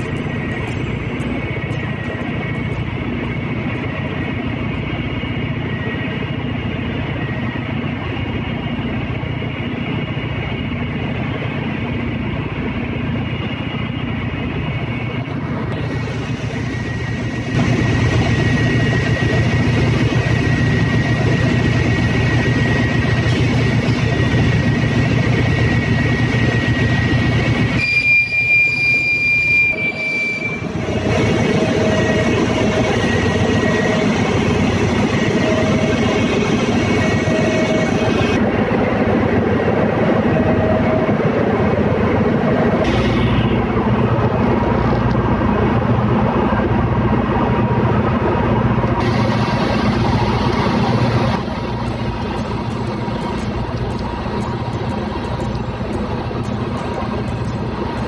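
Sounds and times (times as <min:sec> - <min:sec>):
faint high whine: 0:00.0 - 0:46.8
engine room machinery drone: 0:00.0 - 0:58.0.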